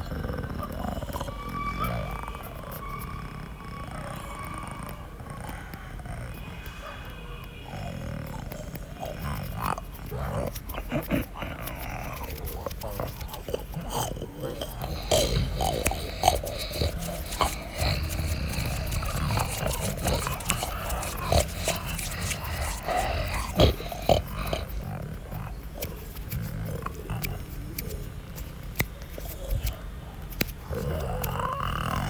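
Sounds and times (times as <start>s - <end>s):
bear growling and roaring: 0.0s - 32.0s
tiger growling and roaring: 0.0s - 32.0s.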